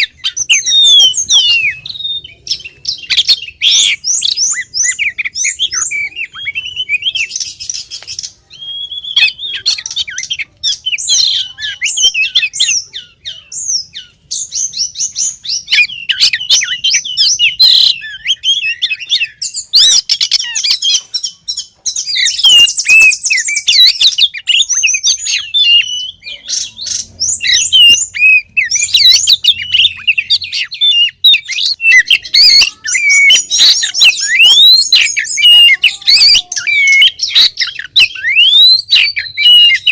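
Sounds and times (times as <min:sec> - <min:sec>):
harsh buzzy bird rasps: 0:00.0 - 0:14.5, 0:15.5 - 0:39.9
bird singing whistles and chirps: 0:00.0 - 0:39.9.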